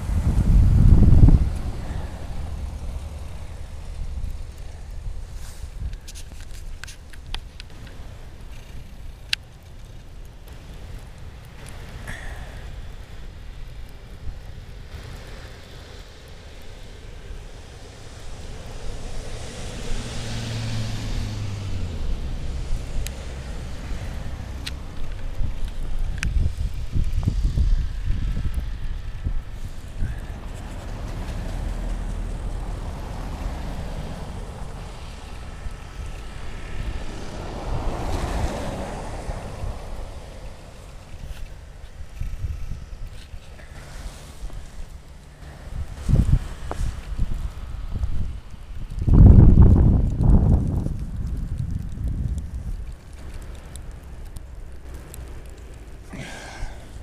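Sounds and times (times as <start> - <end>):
vehicle engine and tyre noise: 0.0 - 57.0
wind rumbling on microphone: 0.0 - 57.0.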